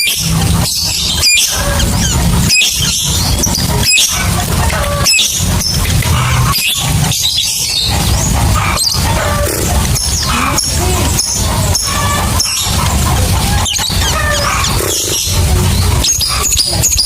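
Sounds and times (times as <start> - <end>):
lovebirds chattering: 0.0 - 17.0
steady low rumble: 0.2 - 17.0.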